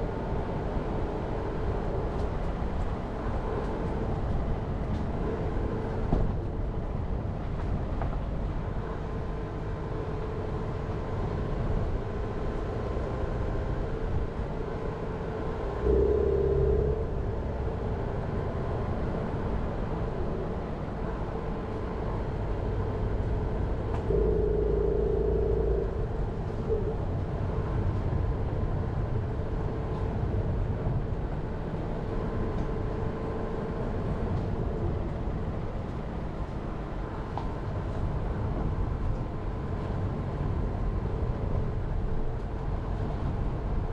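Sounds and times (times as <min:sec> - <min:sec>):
car engine drone: 0:00.0 - 0:43.8.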